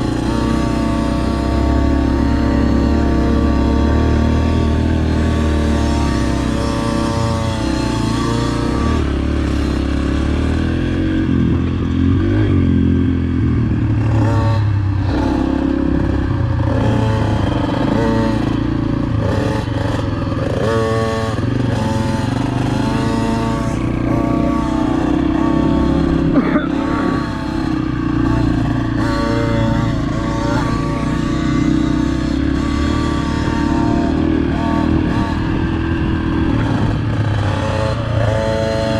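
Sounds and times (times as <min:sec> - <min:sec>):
dirt bike engine revving: 0:00.0 - 0:38.9
low engine drone: 0:00.0 - 0:38.9.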